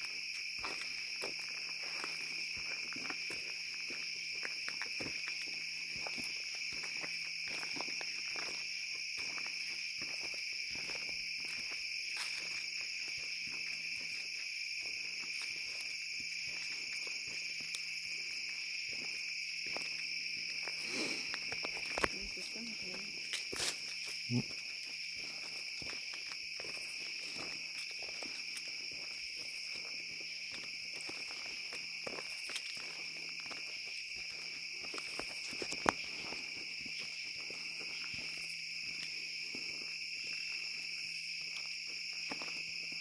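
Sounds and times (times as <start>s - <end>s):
footsteps crunching through leaves: 0.0s - 43.0s
night insects chorus: 0.0s - 43.0s.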